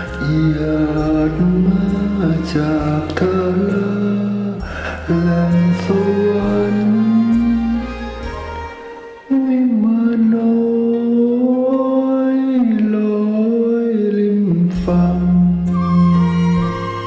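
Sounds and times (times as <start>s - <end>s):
karaoke backing track: 0.0s - 17.0s.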